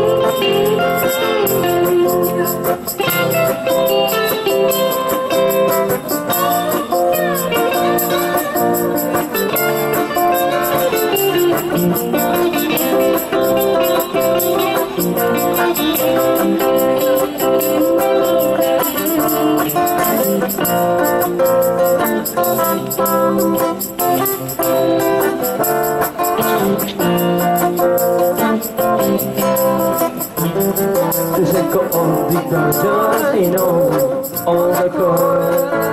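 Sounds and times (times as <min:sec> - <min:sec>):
live band with guitars: 0:00.0 - 0:35.9.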